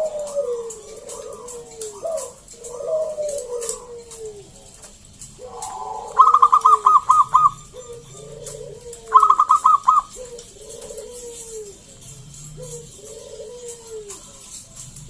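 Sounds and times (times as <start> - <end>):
soft low falling coos: 0.0 - 9.3, 10.0 - 15.0
dove staccato cooing phrases: 0.0 - 15.0.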